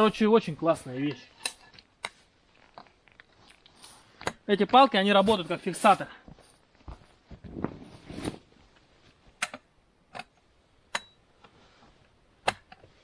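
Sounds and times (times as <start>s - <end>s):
rustling and handling noise: 0.0s - 9.8s, 10.4s - 13.0s.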